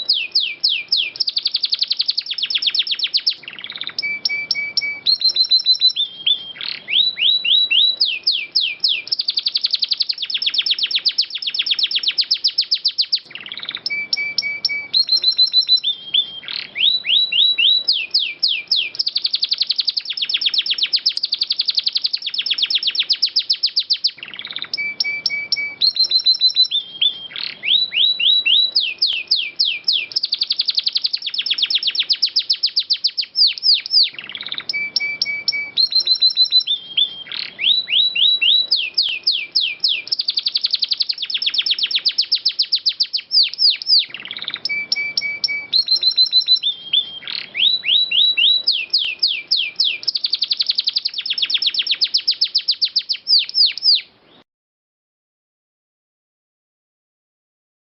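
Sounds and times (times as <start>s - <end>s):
canary singing trills: 0.0s - 54.4s.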